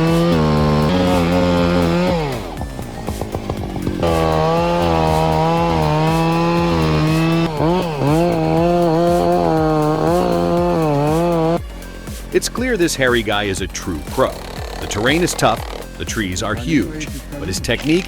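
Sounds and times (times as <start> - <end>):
chainsaw running: 0.0 - 18.0.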